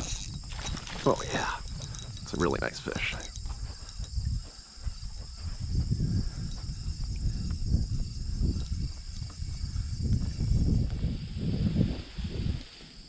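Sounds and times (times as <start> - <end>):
low rumbling bumps: 0.0 - 12.6
insects buzzing: 0.0 - 13.0.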